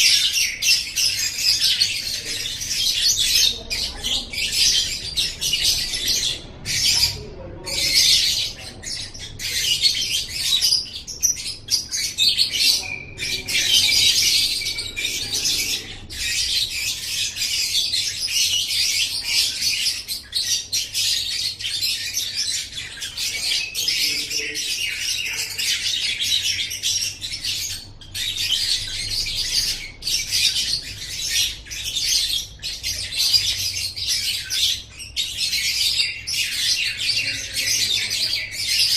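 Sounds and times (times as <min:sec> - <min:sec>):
bird chattering twitter: 0:00.0 - 0:38.9.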